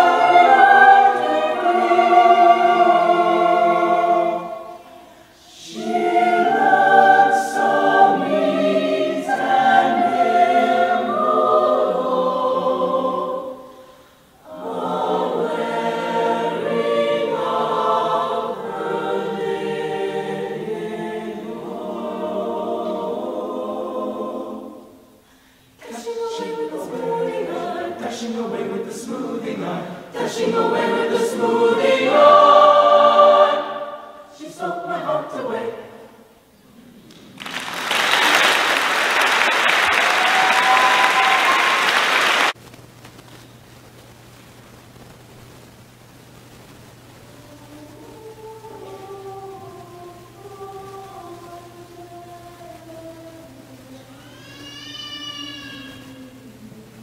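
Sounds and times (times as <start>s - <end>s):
mixed choir singing: 0.0s - 36.8s, 37.4s - 42.6s, 47.4s - 54.8s.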